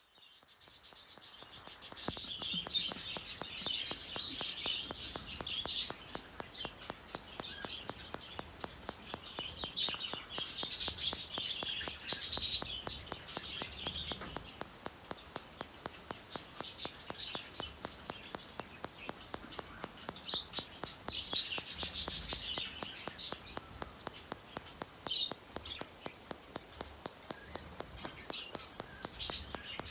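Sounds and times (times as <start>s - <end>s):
faint steady ticking: 0.0s - 29.9s
budgerigars chirping: 0.5s - 29.9s.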